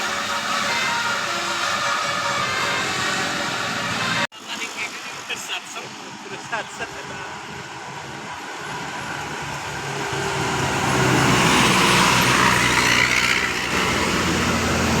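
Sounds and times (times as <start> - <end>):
bus engine passing by: 0.0 - 4.3, 5.1 - 15.0
rushing noise of passing bus: 0.0 - 15.0.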